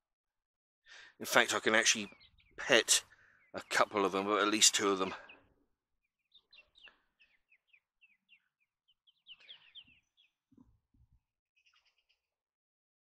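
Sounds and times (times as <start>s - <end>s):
faint bird chirping: 0.9s - 12.5s.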